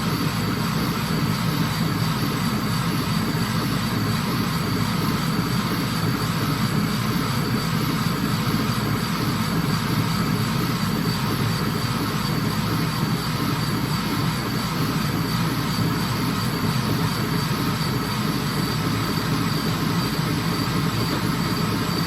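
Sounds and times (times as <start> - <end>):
faint high whine: 0.0 - 22.0
laser engraver humming: 0.0 - 22.0.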